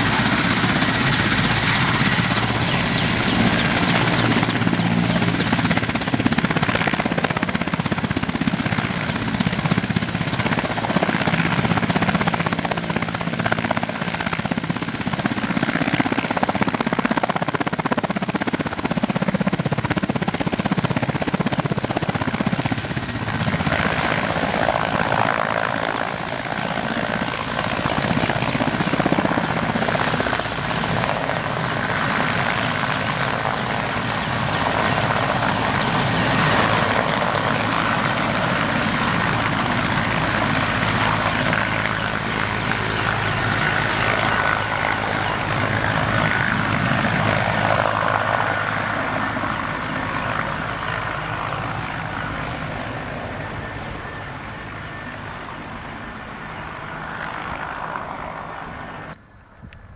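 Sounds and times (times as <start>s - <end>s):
helicopter rotor and engines: 0.0s - 59.9s.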